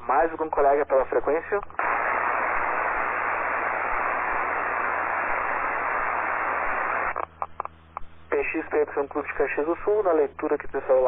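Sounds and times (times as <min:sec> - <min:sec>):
radio band noise hiss: 0:00.0 - 0:11.0.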